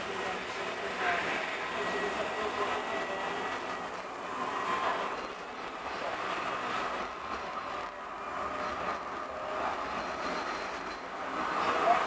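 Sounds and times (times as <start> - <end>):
tram wheels on rails: 0.0 - 12.0.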